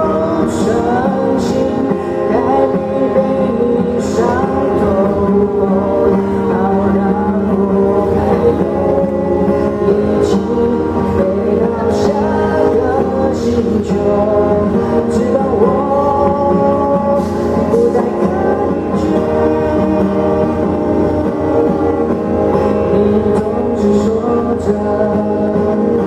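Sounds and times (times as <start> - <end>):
pop band music: 0.0 - 26.0.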